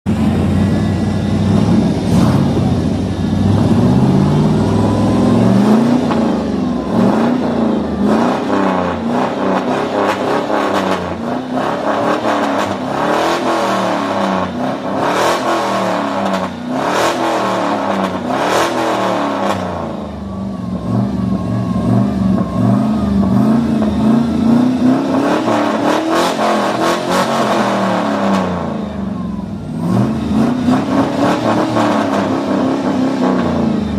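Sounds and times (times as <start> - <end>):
truck engine revving: 0.1 - 33.9.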